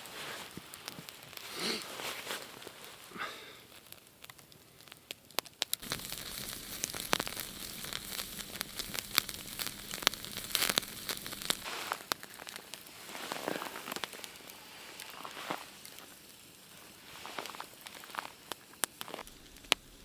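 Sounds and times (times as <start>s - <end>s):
steady hiss: 0.0s - 20.0s
wood fire crackling and popping: 0.0s - 20.0s.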